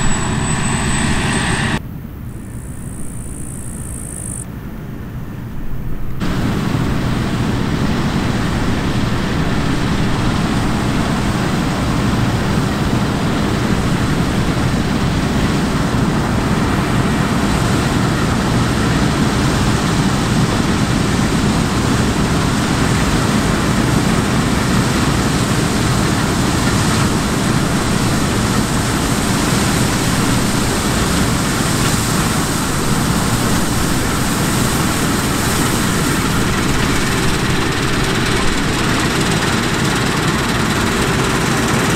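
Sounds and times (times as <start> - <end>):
vehicle engine drone: 0.0 - 41.9.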